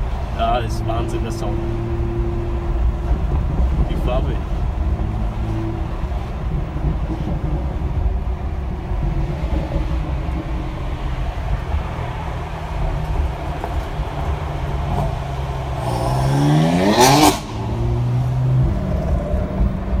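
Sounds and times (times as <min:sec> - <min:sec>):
cabin and road rumble: 0:00.0 - 0:20.0
car engine accelerating: 0:00.0 - 0:20.0.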